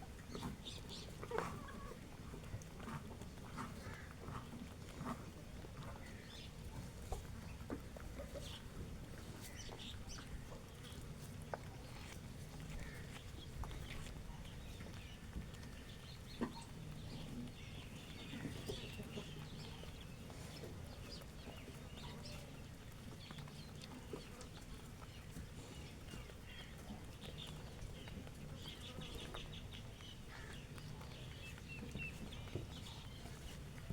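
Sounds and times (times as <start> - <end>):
beaks pecking at grain: 0.0 - 33.9
hens clucking: 0.0 - 33.9
low steady background noise: 0.0 - 33.9.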